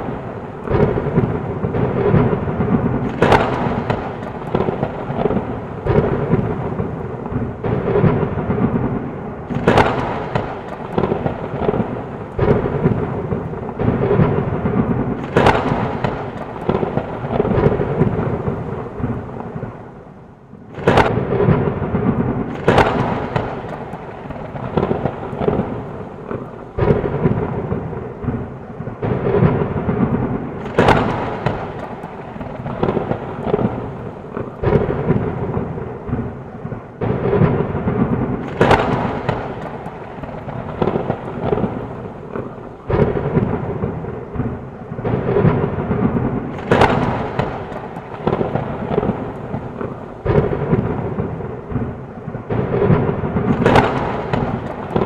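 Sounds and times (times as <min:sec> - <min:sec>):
sharp thunder cracks: 0:00.0 - 0:20.1, 0:20.7 - 0:55.0
heavy rain: 0:00.0 - 0:55.0
rolling thunder: 0:00.0 - 0:55.0.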